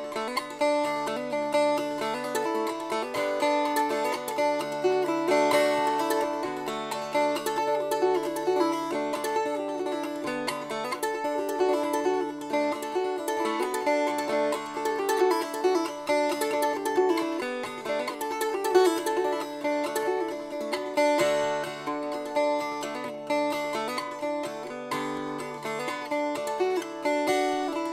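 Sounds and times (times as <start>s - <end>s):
acoustic plucked string music: 0.0s - 27.9s.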